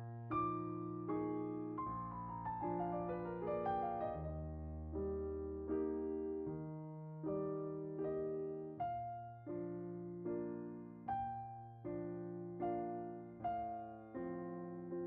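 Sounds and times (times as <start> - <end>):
soft electric piano chords: 0.0 - 15.0.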